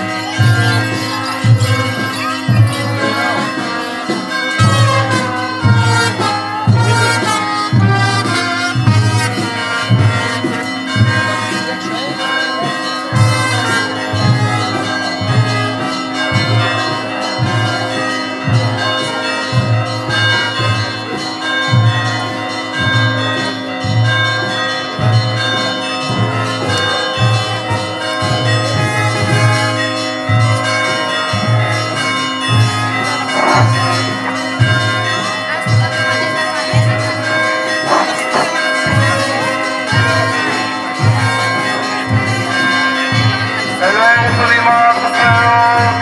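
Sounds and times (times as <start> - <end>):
church bells pealing: 0.0 - 46.0.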